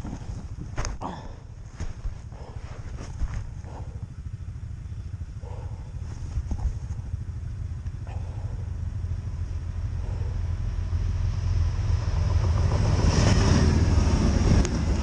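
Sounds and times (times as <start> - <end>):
snowmobile engine droning: 0.0 - 15.0.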